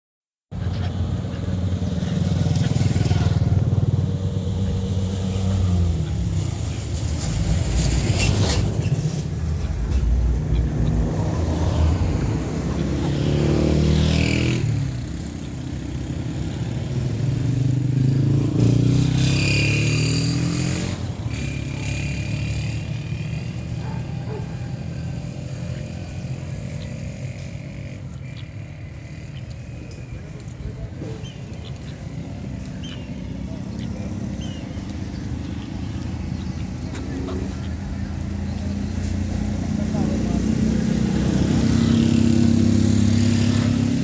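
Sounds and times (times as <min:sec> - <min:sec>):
motor vehicle engines running: 0:00.5 - 0:44.0.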